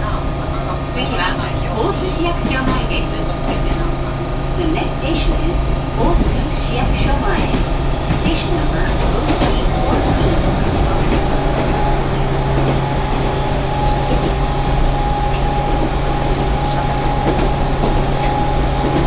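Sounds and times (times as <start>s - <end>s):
constant low hum: 0.0s - 19.0s
train running noise: 0.0s - 19.0s.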